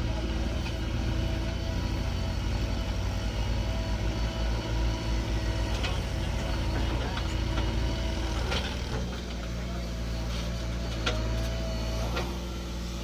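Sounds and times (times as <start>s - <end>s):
diesel engine low throb: 0.0s - 13.0s.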